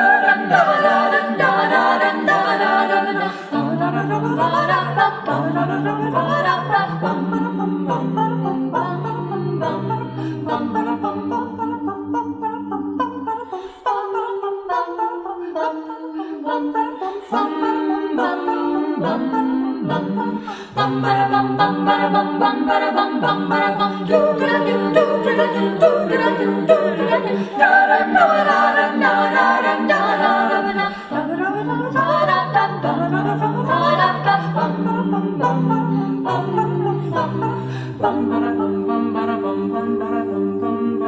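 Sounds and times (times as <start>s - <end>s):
choir singing a cappella: 0.0s - 41.0s.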